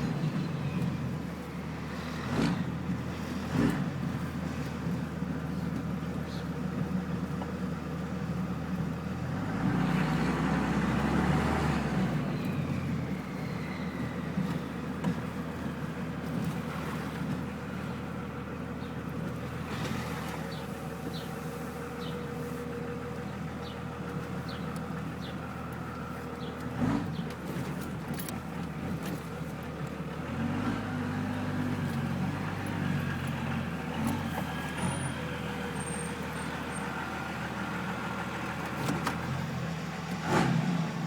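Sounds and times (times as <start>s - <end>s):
diesel engine idling and revving: 0.0s - 41.0s.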